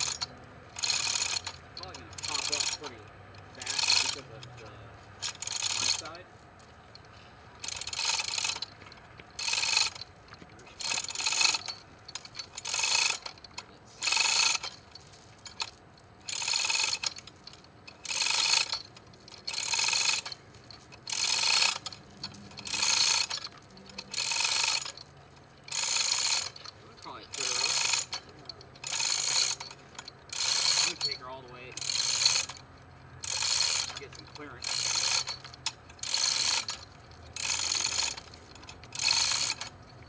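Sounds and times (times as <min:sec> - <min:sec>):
chain hoist ratchet clattering: 0:00.0 - 0:40.0.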